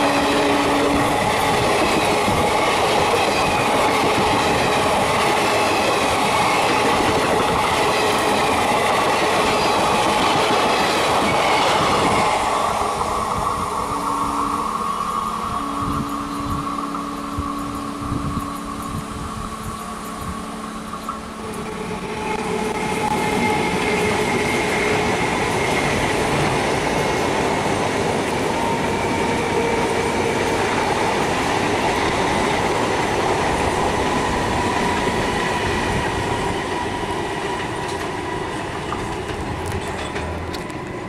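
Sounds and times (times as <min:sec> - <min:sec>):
electric train whine: 0:00.0 - 0:41.0
train wheel and rail noise: 0:00.0 - 0:41.0.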